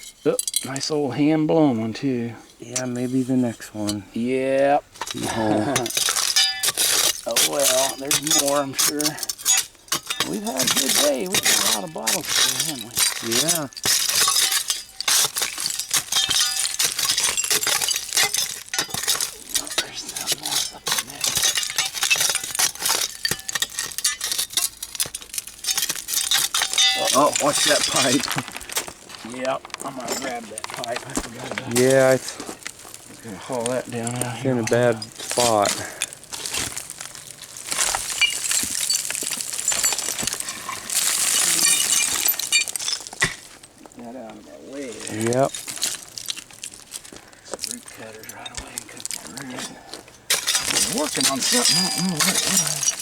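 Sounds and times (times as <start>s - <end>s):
glass bottles clinking: 0.0s - 0.9s, 4.8s - 43.9s, 44.8s - 53.0s.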